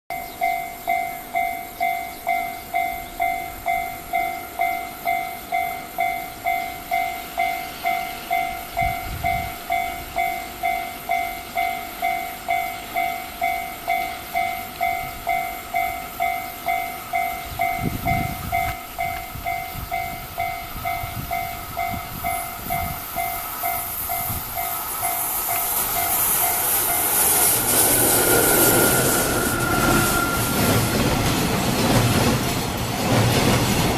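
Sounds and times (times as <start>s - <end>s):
railroad crossing bell ringing: 0.1s - 32.9s
freight train rumble: 0.1s - 33.9s.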